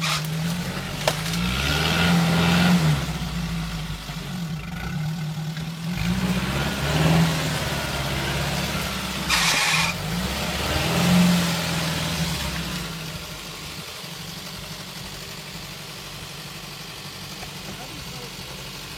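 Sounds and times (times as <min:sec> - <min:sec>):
engine revving: 0:00.0 - 0:18.9.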